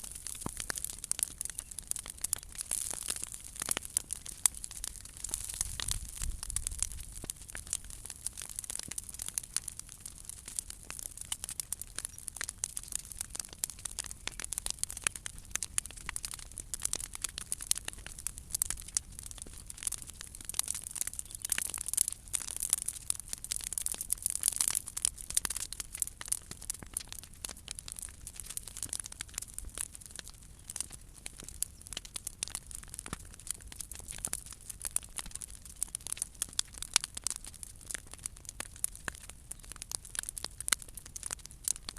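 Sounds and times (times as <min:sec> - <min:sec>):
bonfire crackling and popping: 0:00.0 - 0:41.9.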